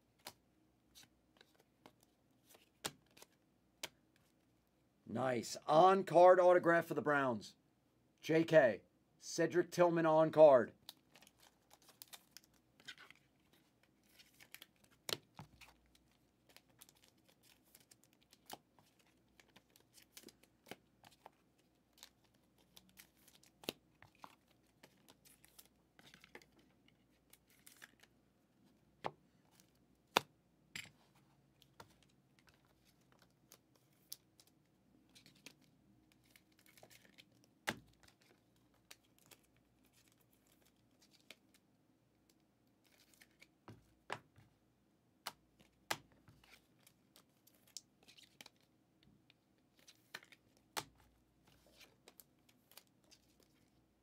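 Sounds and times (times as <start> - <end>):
card sleeves clicking and rustling: 0.1 - 4.3, 10.8 - 28.1, 29.0 - 41.6, 42.3 - 44.4, 45.3 - 48.7, 49.7 - 53.8.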